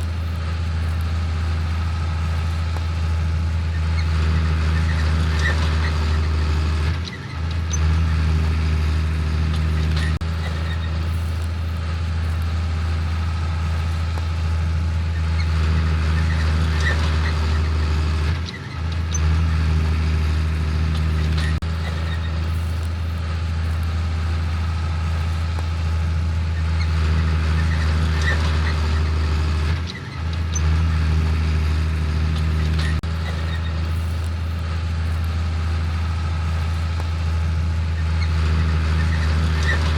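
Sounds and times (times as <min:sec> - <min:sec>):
heavy farm machinery running: 0:00.0 - 0:39.9.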